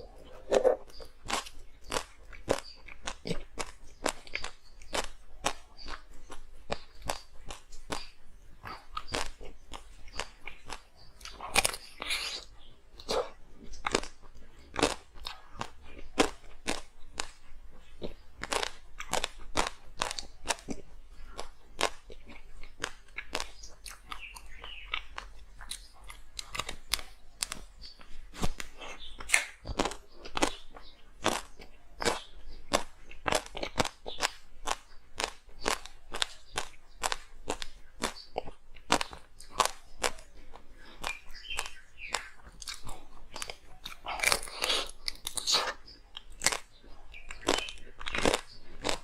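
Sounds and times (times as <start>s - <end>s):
ice being chewed: 0.0s - 49.0s.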